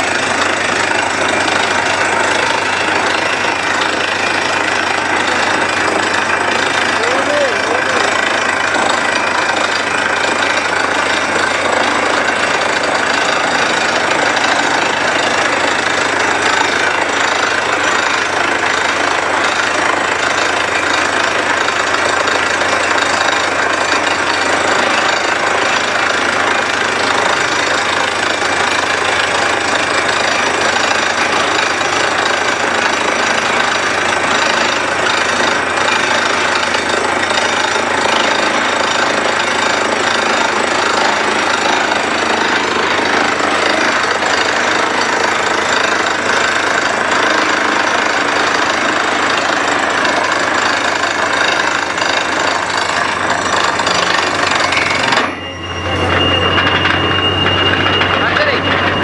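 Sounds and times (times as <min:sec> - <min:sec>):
drill hammering knock: 0:00.0 - 0:59.0
drilling rig engine running: 0:00.0 - 0:59.0.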